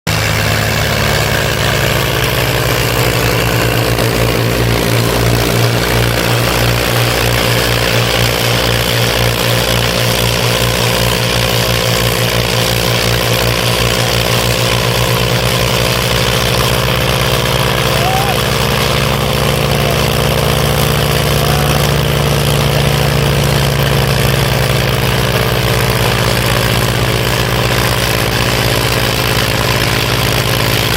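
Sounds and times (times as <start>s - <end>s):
diesel tractor engine under load: 0.0s - 30.9s.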